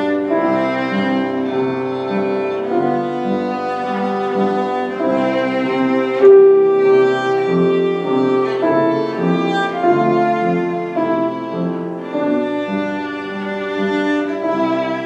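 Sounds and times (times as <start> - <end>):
bowed string instrument melody: 0.0 - 15.0.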